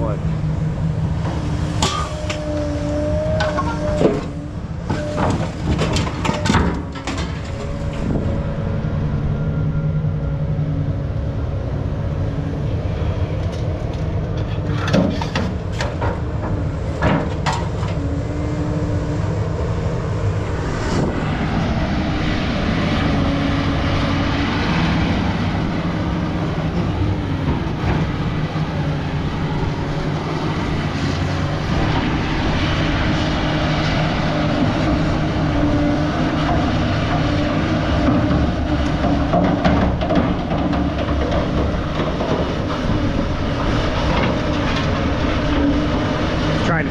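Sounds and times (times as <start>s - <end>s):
heavy diesel machine running: 0.0s - 46.9s.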